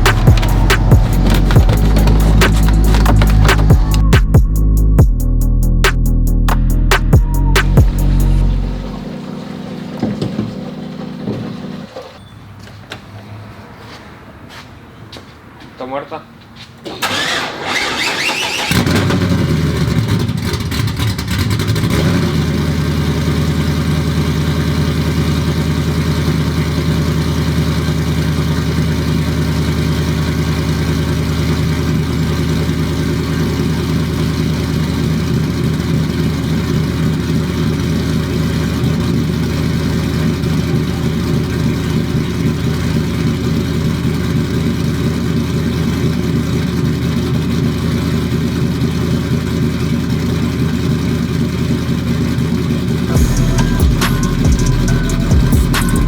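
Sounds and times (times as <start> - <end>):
pickup truck engine idling: 0.0 - 5.8, 6.4 - 11.9, 18.9 - 56.0.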